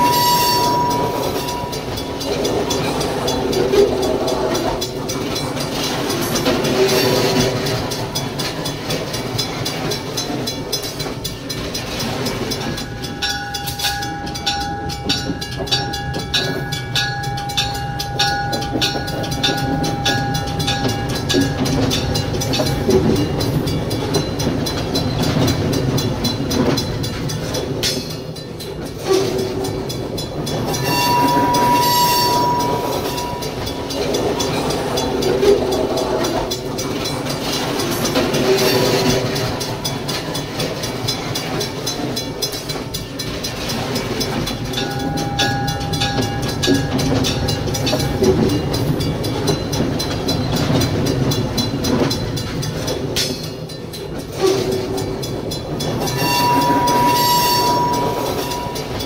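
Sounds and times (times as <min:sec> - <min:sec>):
freight train wheels clacking: 0:00.0 - 0:59.0.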